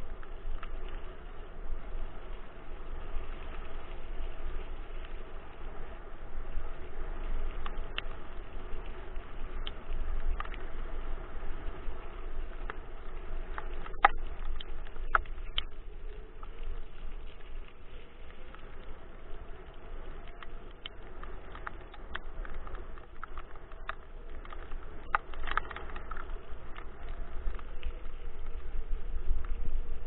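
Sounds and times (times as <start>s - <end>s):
scooter rolling on asphalt: 0.0s - 30.0s
wind buffeting microphone: 0.0s - 30.0s.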